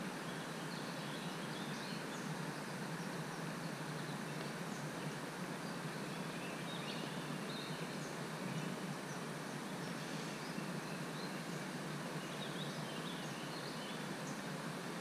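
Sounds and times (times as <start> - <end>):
outdoor background hiss: 0.0 - 15.0
faint bird chirps: 0.2 - 14.5.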